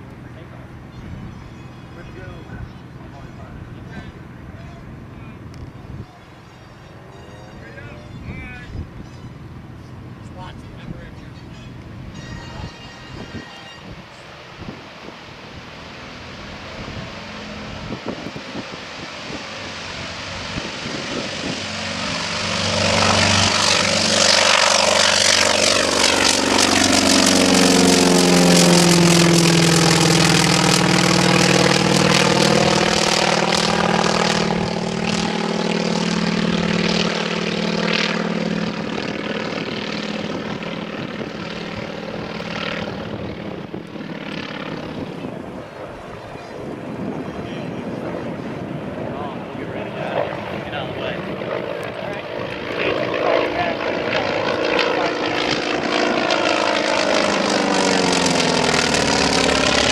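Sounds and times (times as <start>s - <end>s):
radial engine and propeller roaring: 0.0s - 59.9s.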